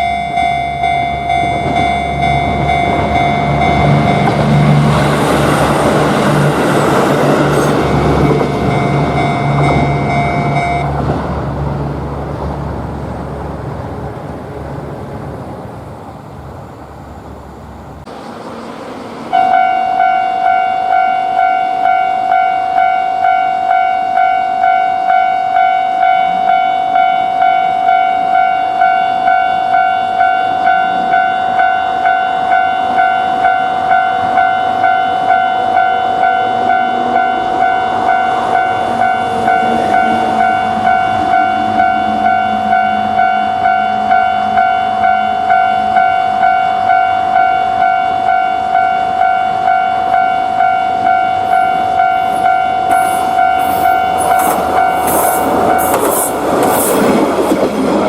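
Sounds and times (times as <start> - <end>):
level-crossing warning bell clanging: 0.0 - 12.2, 19.3 - 58.0
train rolling past: 0.0 - 58.0.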